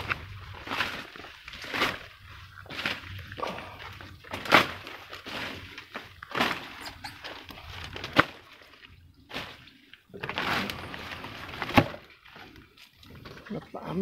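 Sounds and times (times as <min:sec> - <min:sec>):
rustling: 0:00.0 - 0:13.7.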